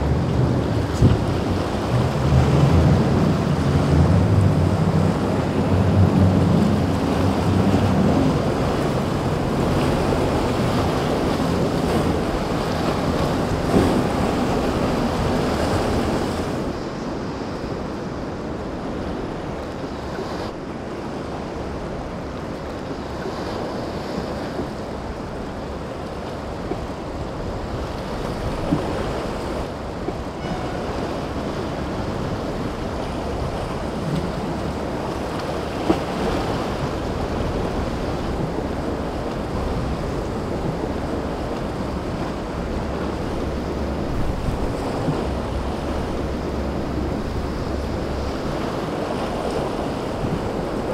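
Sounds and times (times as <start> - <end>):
waves breaking: 0.0 - 50.9
wind blowing across microphone: 0.0 - 50.9.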